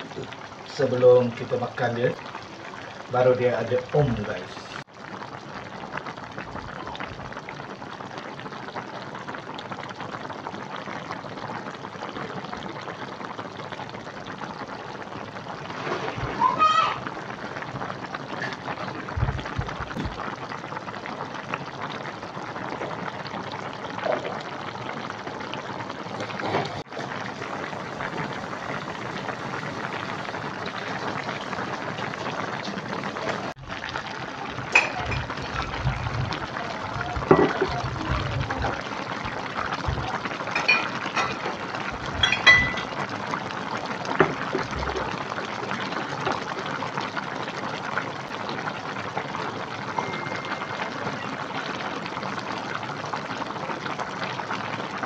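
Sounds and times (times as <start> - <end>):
soup bubbling: 0.0 - 55.0.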